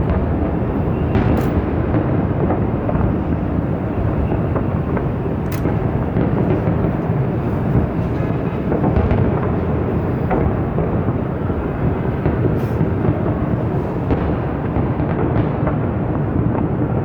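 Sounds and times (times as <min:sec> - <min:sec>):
fireworks booming: 0:00.0 - 0:17.0.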